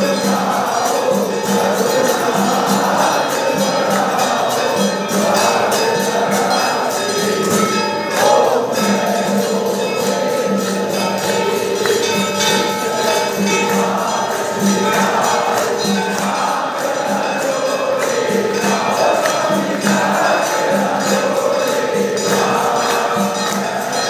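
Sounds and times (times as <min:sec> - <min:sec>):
hand cymbals clashing: 0:00.0 - 0:24.0
jingling bells: 0:00.0 - 0:24.0
people singing along: 0:00.0 - 0:24.0.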